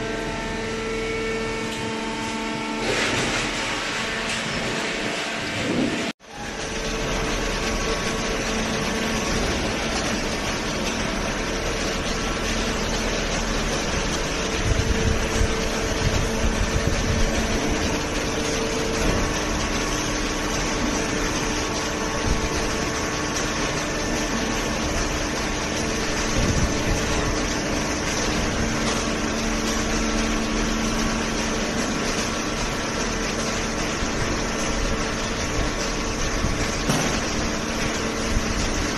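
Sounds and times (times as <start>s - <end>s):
baler machine droning: 0.0s - 38.9s.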